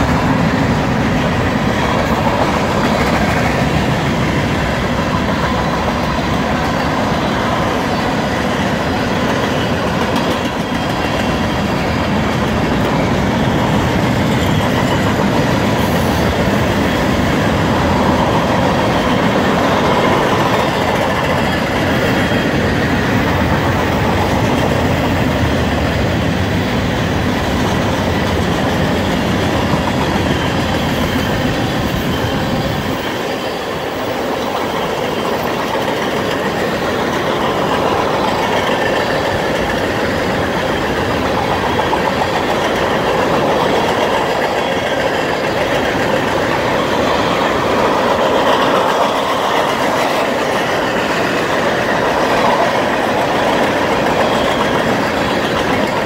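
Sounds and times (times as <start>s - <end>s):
freight train wheels on rails: 0.0s - 56.0s.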